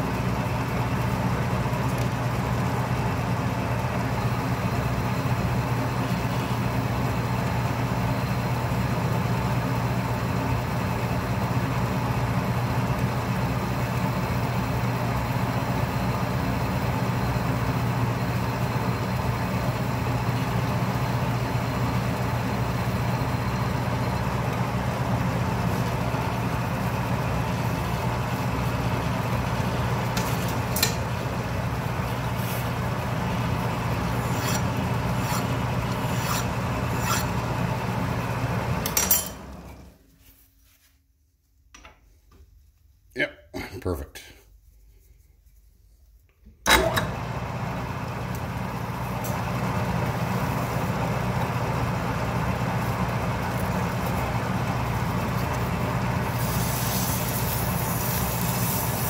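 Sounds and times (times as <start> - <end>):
metal lathe motor humming: 0.1 - 39.8, 46.7 - 59.0.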